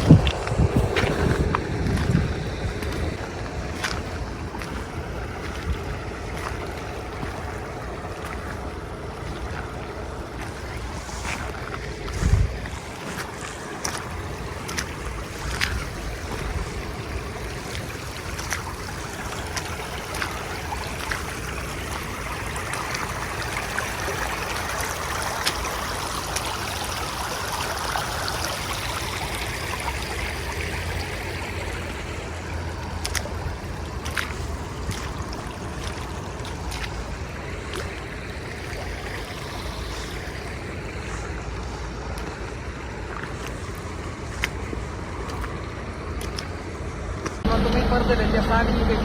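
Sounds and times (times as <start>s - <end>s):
low steady rumble: 0.0s - 49.0s
water rushing and gurgling: 0.0s - 49.0s.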